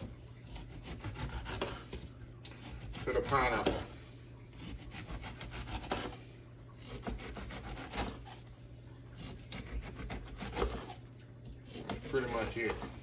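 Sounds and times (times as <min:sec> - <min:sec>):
bread knife sawing through rind: 0:00.0 - 0:08.5, 0:09.1 - 0:11.0, 0:11.6 - 0:13.0.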